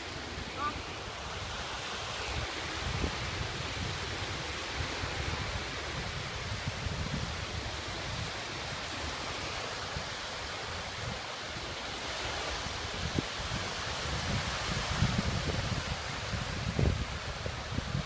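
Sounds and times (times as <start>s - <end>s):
small waves breaking on shore: 0.0s - 18.0s
wind buffeting microphone: 0.0s - 18.0s.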